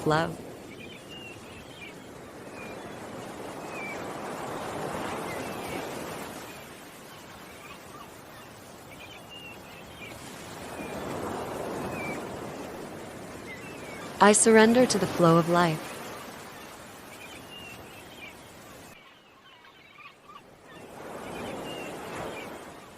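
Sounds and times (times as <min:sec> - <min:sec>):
birds chirping: 0:00.0 - 0:22.9
ocean waves washing in: 0:00.0 - 0:22.9.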